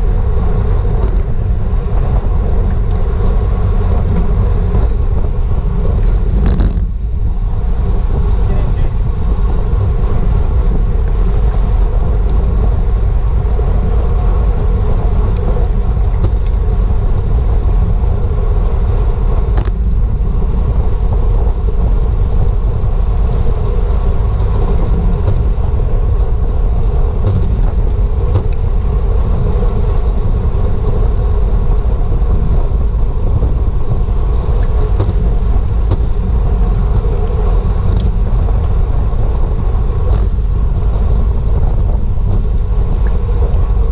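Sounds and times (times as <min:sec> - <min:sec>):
bicycle tyre road noise: 0:00.0 - 0:43.9
wind rushing over microphone: 0:00.0 - 0:43.9.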